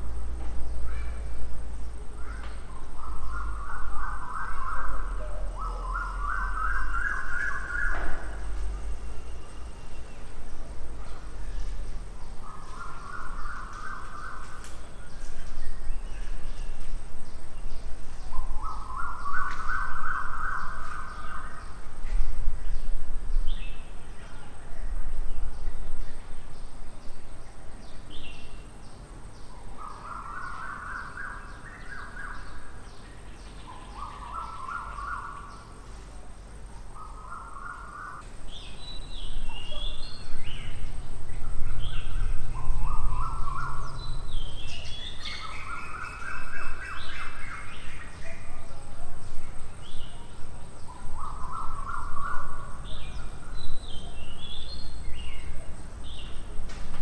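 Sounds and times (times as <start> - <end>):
garden birds singing: 0.0 - 57.0.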